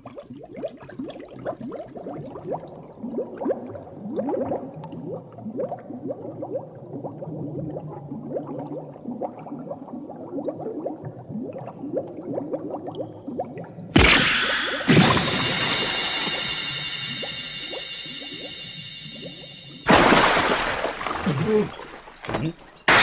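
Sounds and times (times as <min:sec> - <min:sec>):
underwater bubble blips: 0:00.0 - 0:22.8.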